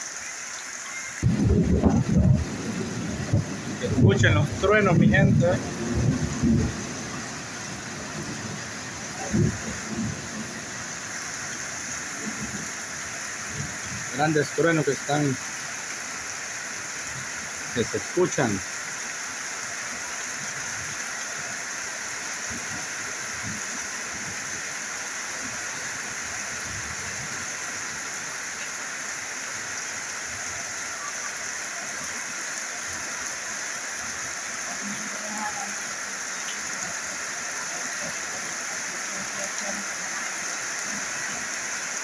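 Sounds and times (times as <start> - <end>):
rain on metal roofs: 0.0 - 42.0.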